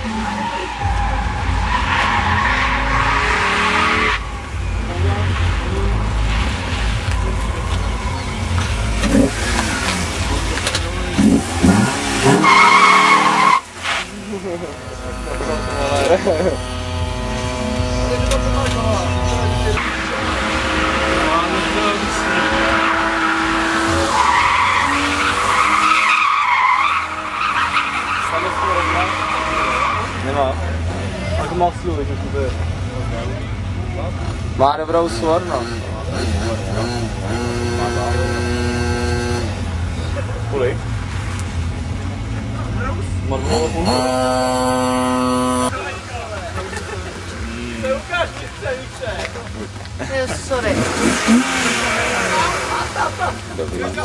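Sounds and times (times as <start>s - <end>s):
car engine under load: 0.0s - 54.0s
tyres skidding: 0.0s - 54.0s.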